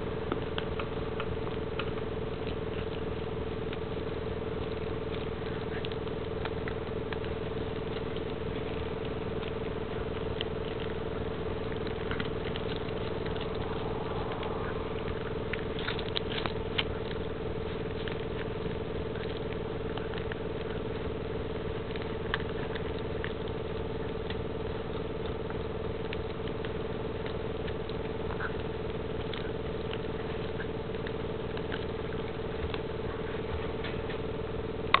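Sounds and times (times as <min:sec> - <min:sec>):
puppy gnawing on chew: 0:00.0 - 0:35.0
steady background hum: 0:00.0 - 0:35.0.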